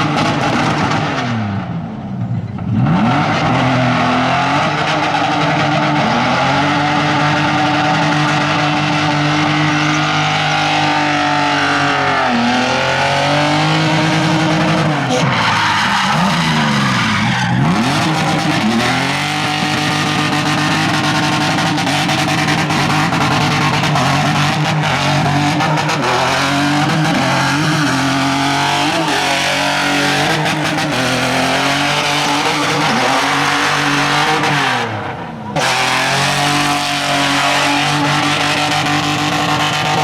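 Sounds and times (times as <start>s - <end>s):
car engine revving hard: 2.7s - 40.0s.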